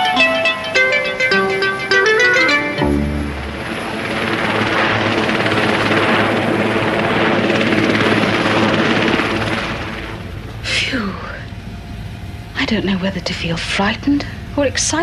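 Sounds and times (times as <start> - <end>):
helicopter rotor and turbine: 0.3 - 15.0.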